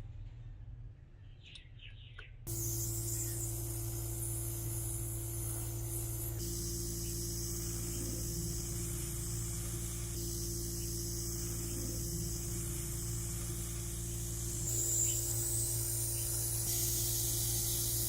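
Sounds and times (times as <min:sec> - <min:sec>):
compressed air spraying hiss: 0:02.5 - 0:18.0
low machine hum: 0:02.5 - 0:18.0.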